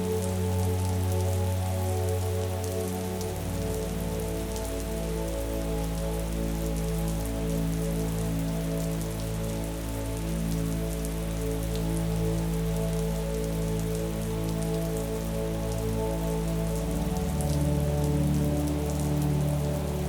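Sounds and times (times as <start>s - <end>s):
soft sustained music: 0.0s - 20.0s
steady rain falling: 0.0s - 20.0s.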